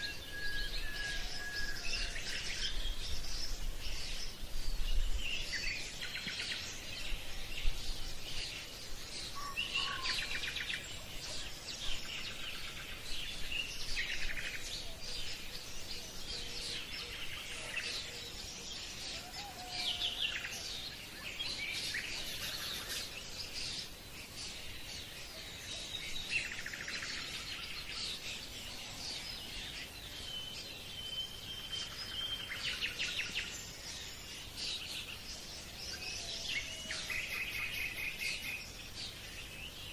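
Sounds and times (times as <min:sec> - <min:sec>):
birds chirping and trilling: 0:00.0 - 0:39.9
faint background hiss: 0:00.0 - 0:39.9.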